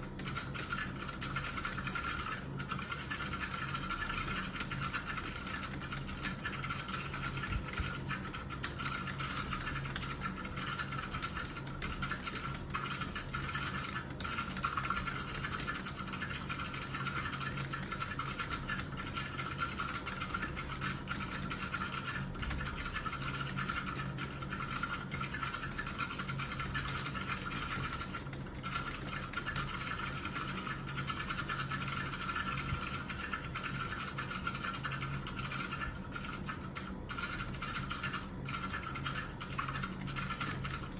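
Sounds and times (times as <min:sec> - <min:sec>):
fast keyboard typing: 0:00.0 - 0:40.9
steady low hum: 0:00.0 - 0:40.9.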